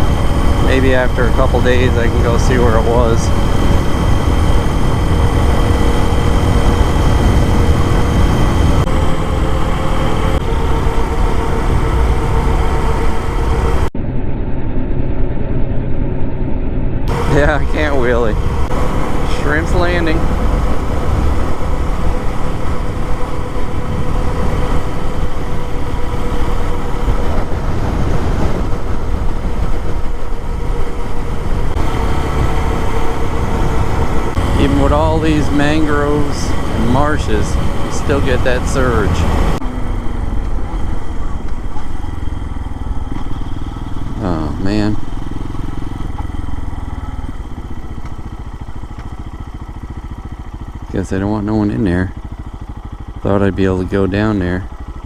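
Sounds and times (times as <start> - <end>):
wind rushing over microphone: 0.0 - 50.7
motorcycle engine running: 0.0 - 55.0.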